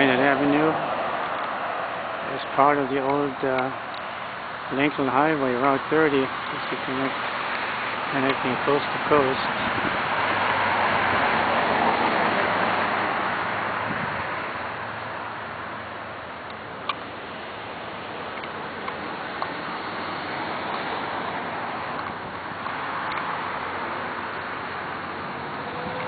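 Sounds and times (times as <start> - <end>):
traffic hum: 0.0 - 26.0
vehicle passing: 0.0 - 26.0.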